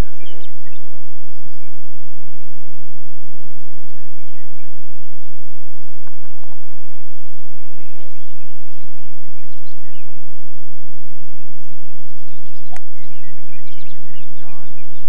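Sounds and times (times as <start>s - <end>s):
faint bird chirps: 0.0s - 15.0s
low hum: 0.0s - 15.0s.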